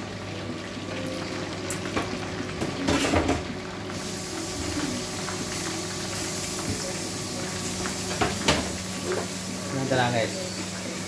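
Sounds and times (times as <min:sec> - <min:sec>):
oil sizzling with pops: 0:00.0 - 0:11.0.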